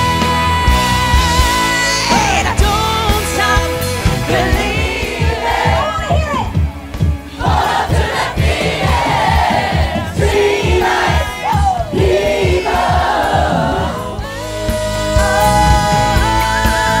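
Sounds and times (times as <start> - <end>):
crowd singing and shouting: 0.0 - 17.0.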